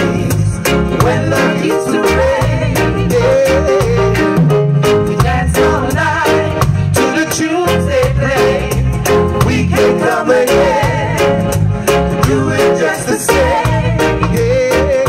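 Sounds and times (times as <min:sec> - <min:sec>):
bass guitar: 0:00.0 - 0:15.0
drums keeping a steady beat: 0:00.0 - 0:15.0
electric guitar: 0:00.0 - 0:15.0
several people singing: 0:00.0 - 0:15.0.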